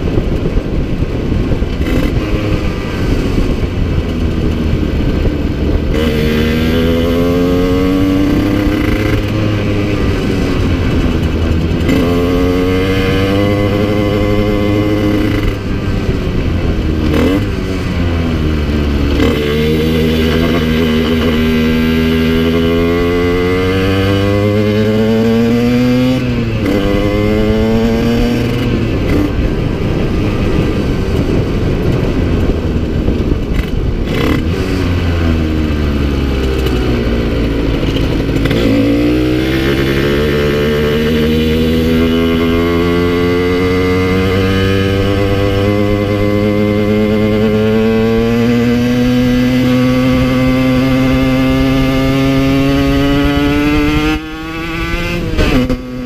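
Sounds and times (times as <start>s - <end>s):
two-stroke engine revving through gears: 1.5s - 32.6s, 33.3s - 56.0s.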